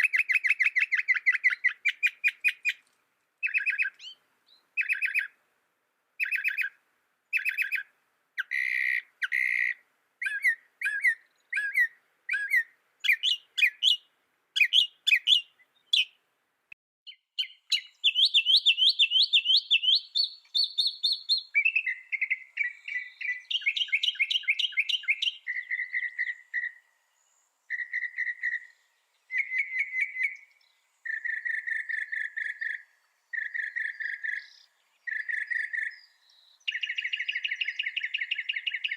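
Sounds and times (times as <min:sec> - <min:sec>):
mockingbird singing: 0:00.0 - 0:02.8, 0:03.4 - 0:05.4, 0:06.2 - 0:16.2, 0:17.1 - 0:38.9.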